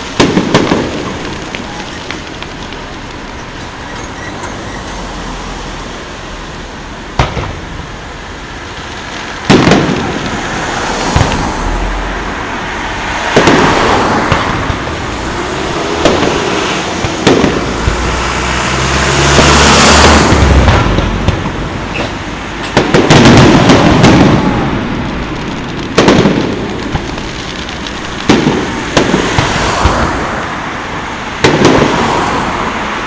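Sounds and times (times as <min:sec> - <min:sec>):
firework shells bursting: 0:00.0 - 0:04.6, 0:07.1 - 0:30.6.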